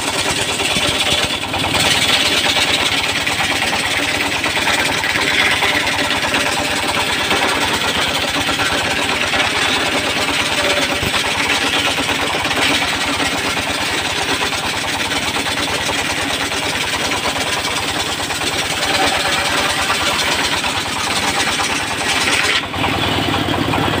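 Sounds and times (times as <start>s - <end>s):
engine running with fast pulse: 0.0s - 24.0s.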